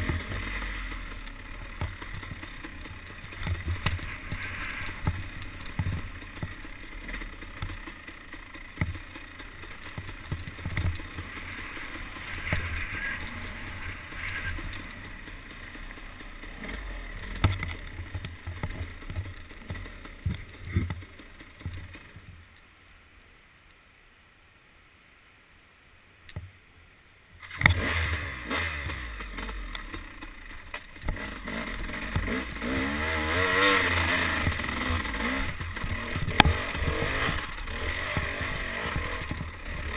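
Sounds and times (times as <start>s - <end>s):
dirt bike engine revving: 0.0s - 22.1s, 27.4s - 39.9s.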